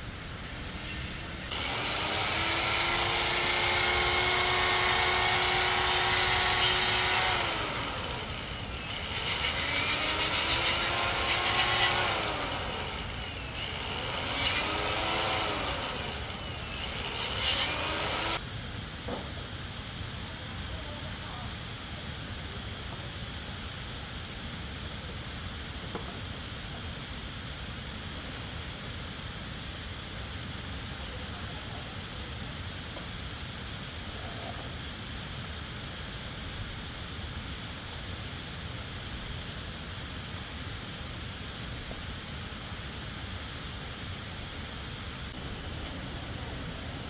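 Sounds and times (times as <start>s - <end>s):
steady high-pitched hiss: 0.0s - 47.0s.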